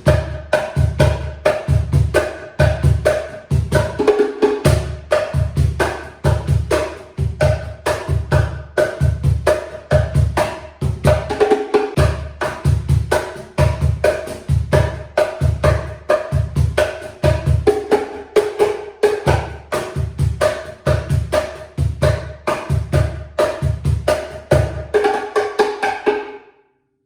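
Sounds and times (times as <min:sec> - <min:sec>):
hand drum groove: 0:00.0 - 0:26.4.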